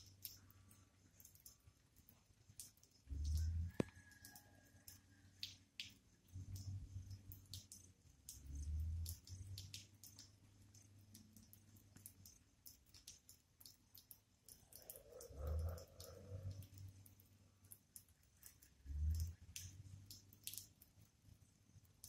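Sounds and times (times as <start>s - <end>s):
water dripping: 0.0s - 22.0s.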